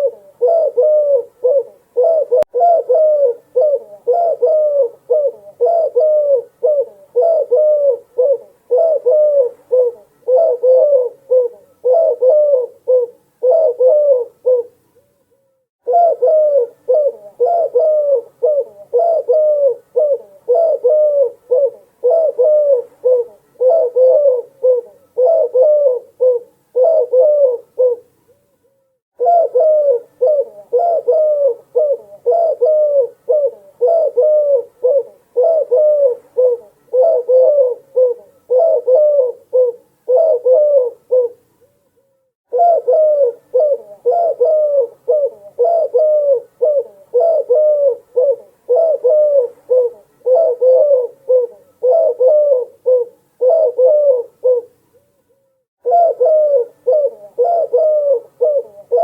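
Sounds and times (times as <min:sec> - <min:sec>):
dove cooing: 0:00.0 - 0:15.1, 0:15.8 - 0:28.4, 0:29.2 - 0:41.7, 0:42.5 - 0:55.0, 0:55.8 - 0:59.0.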